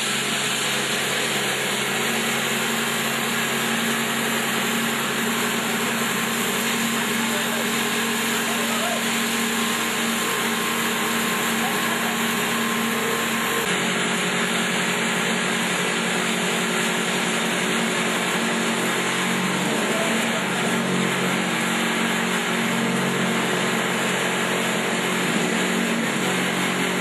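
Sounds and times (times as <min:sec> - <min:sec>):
vibratory feeder humming: 0:00.0 - 0:27.0.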